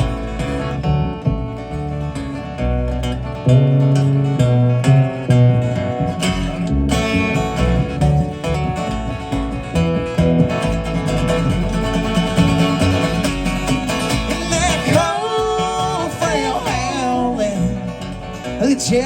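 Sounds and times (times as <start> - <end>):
acoustic guitar picking chords: 0.0 - 19.0
bass line: 0.0 - 19.0.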